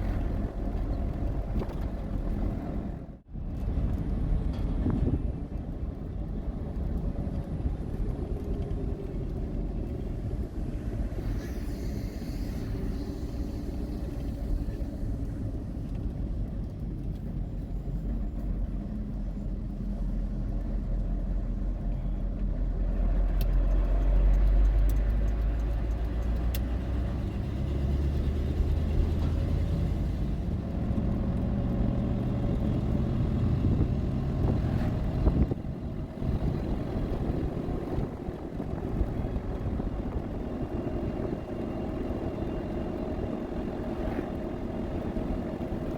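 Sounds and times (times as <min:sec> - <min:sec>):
vehicle engine and road rumble: 0:00.0 - 0:45.9.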